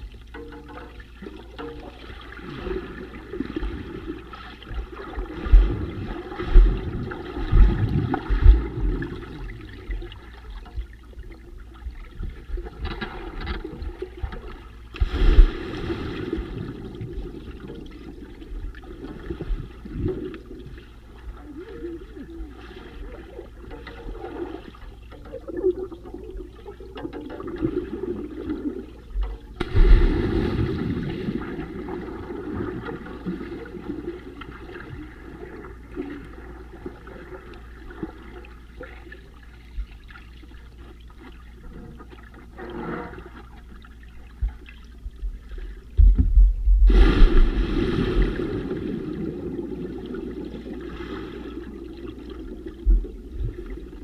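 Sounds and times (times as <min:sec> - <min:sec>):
underwater muffled rush: 0:02.2 - 0:11.0, 0:12.2 - 0:37.4, 0:44.4 - 0:54.0.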